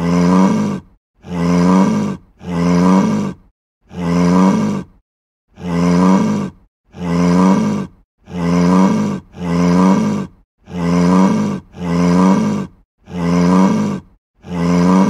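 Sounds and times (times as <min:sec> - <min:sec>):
cow mooing: 0:00.0 - 0:04.9, 0:05.6 - 0:15.0.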